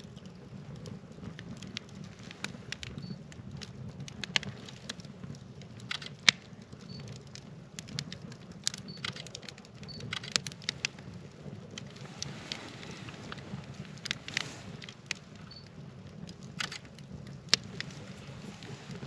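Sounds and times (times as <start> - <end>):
low steady rumble: 0.0 - 19.0
wood fire crackling and popping: 0.0 - 19.0.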